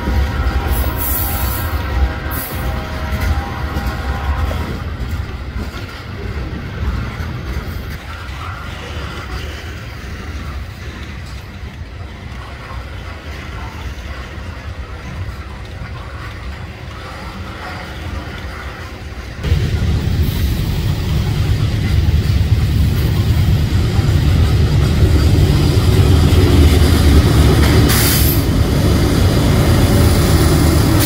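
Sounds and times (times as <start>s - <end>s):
steel wheels rumbling on rails: 0.0s - 31.0s.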